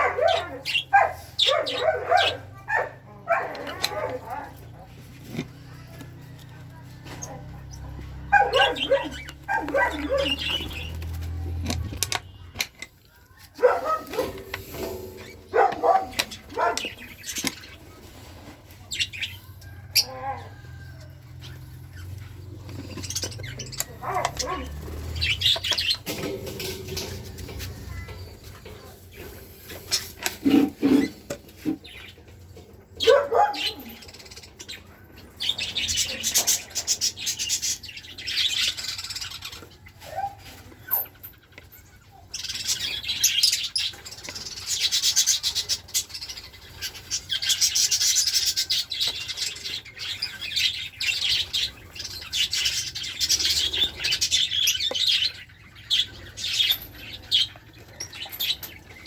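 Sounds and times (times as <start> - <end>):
cage birds chirping and chattering: 0.0 - 59.0.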